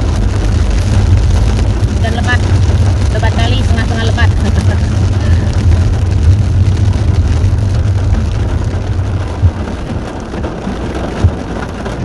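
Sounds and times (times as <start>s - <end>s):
heavy rain on car roof: 0.0s - 12.0s
moving car rumble: 0.0s - 12.0s.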